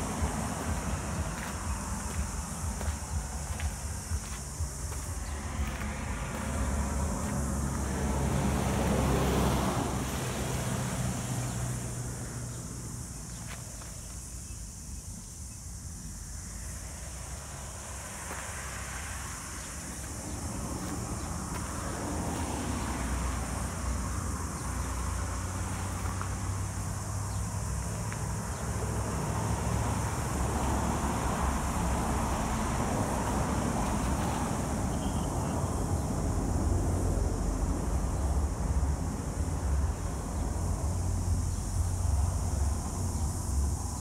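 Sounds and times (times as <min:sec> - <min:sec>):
constant high hiss: 0:00.0 - 0:44.0
road traffic passing: 0:00.0 - 0:44.0.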